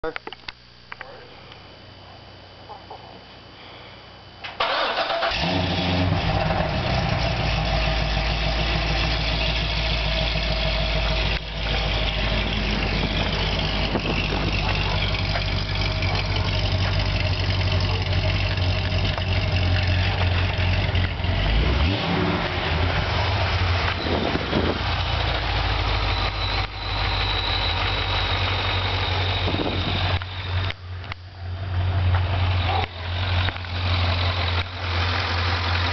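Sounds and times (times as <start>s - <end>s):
car engine starting and idling: 4.4s - 35.9s.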